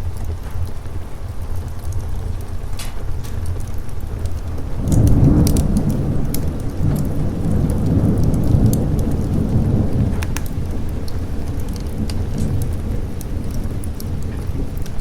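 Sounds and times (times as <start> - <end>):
fireplace crackling: 0.0 - 15.0
rolling thunder rumble: 0.0 - 15.0
steady rain: 0.0 - 15.0.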